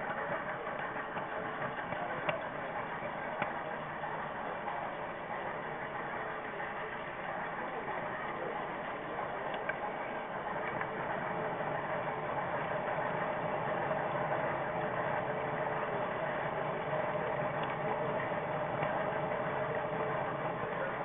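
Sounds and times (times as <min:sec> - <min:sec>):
model train motor whirring: 0:00.0 - 0:21.0
wheels rolling on rails: 0:00.0 - 0:21.0.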